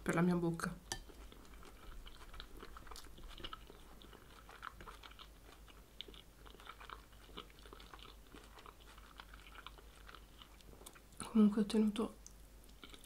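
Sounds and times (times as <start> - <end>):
chewing crunchy food: 0.9 - 11.3, 12.2 - 13.0.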